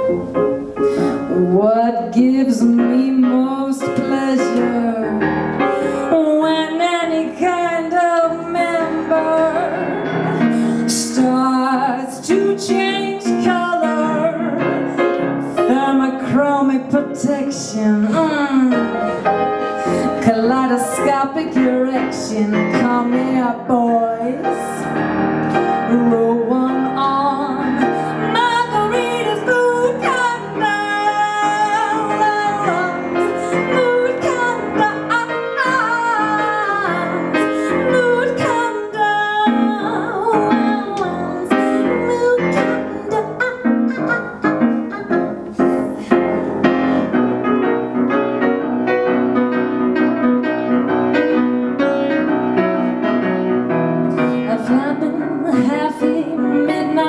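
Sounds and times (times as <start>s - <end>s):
grand piano: 0.0s - 57.0s
woman singing into microphone: 1.1s - 14.9s, 15.5s - 24.9s, 25.8s - 46.2s, 54.2s - 57.0s.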